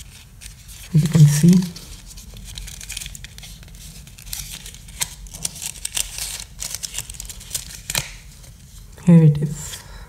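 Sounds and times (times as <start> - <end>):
packaging rustling and crinkling: 0.0 - 8.9.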